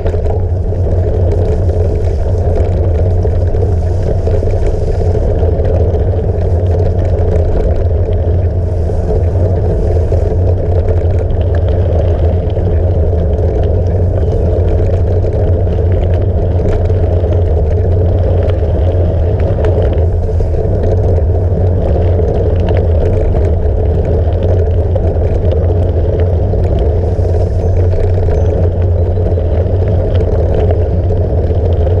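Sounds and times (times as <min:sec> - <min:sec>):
bike tyres rolling on dirt: 0:00.0 - 0:32.0
faint small rattles: 0:00.0 - 0:32.0
wind: 0:00.0 - 0:32.0.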